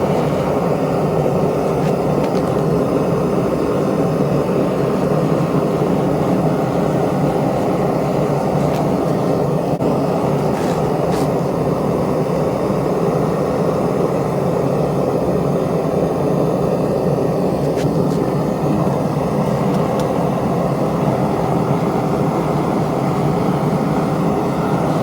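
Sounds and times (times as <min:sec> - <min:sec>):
furnace burner rushing: 0:00.0 - 0:25.0.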